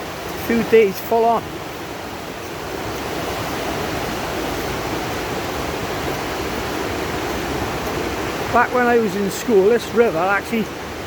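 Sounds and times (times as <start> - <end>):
rushing flooded river: 0.0 - 11.0.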